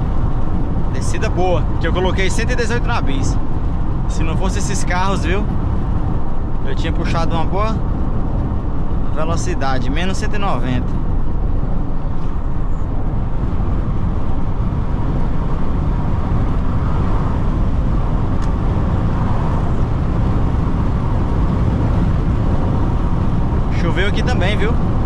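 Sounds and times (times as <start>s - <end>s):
engine drone: 0.0s - 25.0s
tyres rumbling on road: 0.0s - 25.0s.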